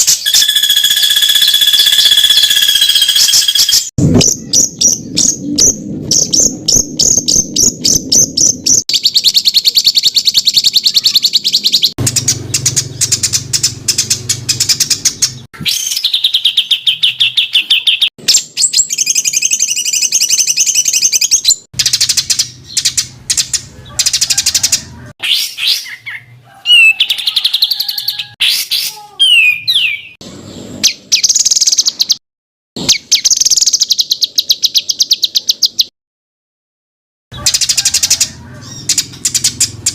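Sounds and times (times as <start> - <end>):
songbirds singing harsh high notes: 0.0 - 32.2.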